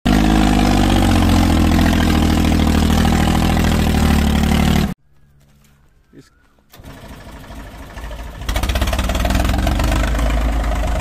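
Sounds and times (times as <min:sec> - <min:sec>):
diesel tractor engine running: 0:00.1 - 0:05.0, 0:06.7 - 0:11.0.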